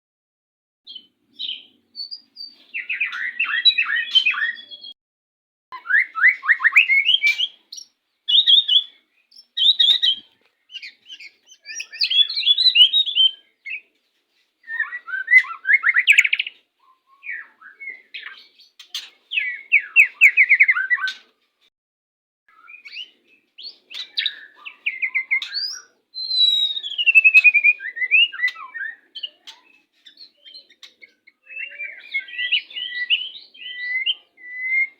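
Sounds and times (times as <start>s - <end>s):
bird singing rapid phrases: 0.9s - 5.0s, 5.7s - 21.3s, 22.5s - 34.9s.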